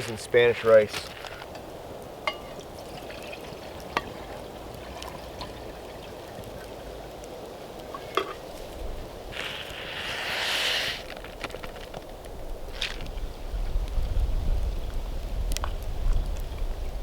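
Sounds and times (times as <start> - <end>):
campfire pops: 0.0 - 14.0, 14.8 - 17.0
campfire hissing: 0.0 - 17.0.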